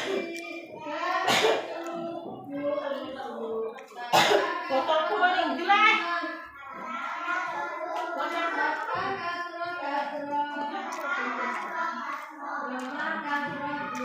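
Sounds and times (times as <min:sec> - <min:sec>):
person singing a melody: 0:00.0 - 0:06.6, 0:08.2 - 0:14.0.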